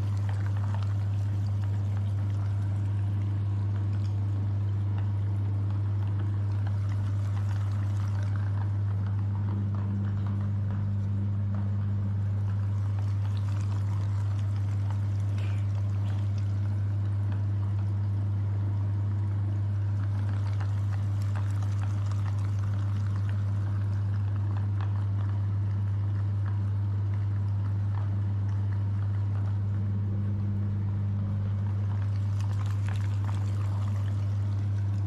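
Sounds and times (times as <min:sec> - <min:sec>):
wet crackling of food: 0:00.0 - 0:35.0.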